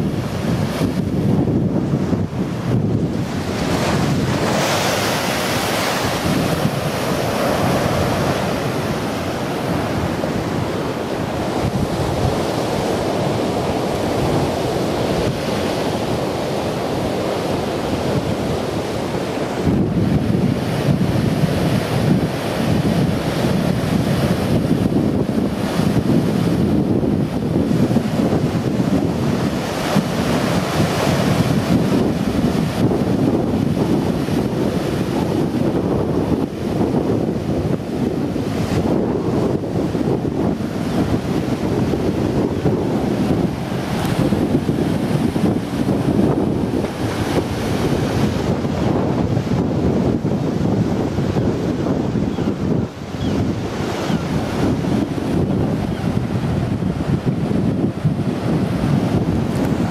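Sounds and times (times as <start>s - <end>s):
storm surf breaking on seawall: 0.0s - 59.9s
wind buffeting microphone: 0.0s - 59.9s.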